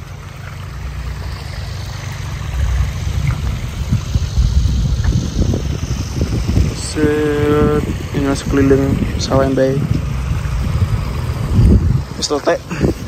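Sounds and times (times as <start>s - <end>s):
irregular low rumble: 0.0s - 13.0s
water pump engine running: 0.0s - 13.0s.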